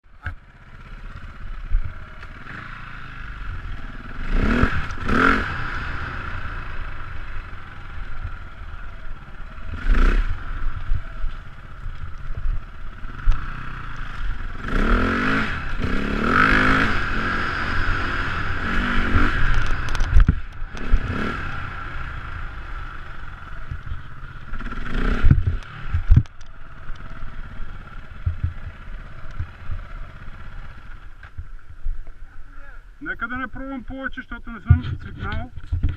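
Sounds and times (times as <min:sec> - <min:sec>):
dirt bike engines revving: 0:00.2 - 0:35.9.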